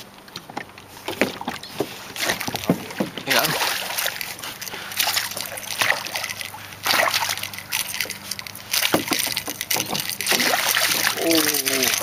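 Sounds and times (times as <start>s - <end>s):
fish splashing at water surface: 1.2s - 12.0s.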